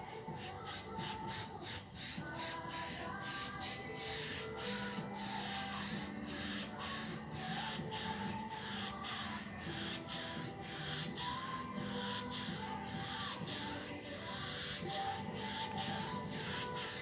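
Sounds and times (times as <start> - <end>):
faint music: 0.0 - 17.0
rubbing strokes on metal: 0.0 - 17.0.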